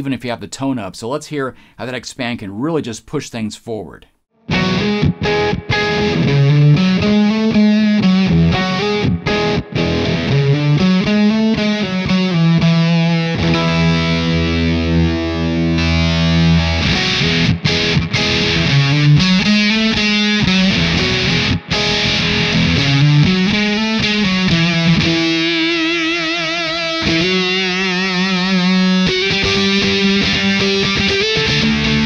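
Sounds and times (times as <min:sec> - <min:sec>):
fuzz electric guitar notes: 0:04.4 - 0:32.0.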